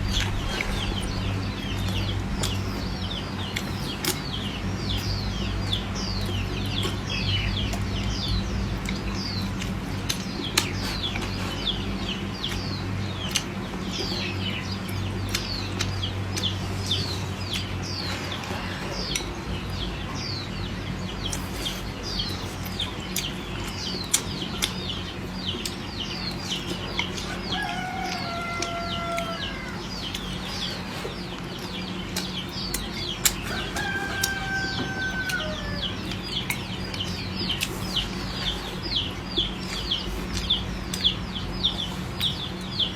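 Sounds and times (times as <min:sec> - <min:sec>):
chicks cheeping: 0:00.0 - 0:42.9
low steady hum: 0:00.0 - 0:42.9.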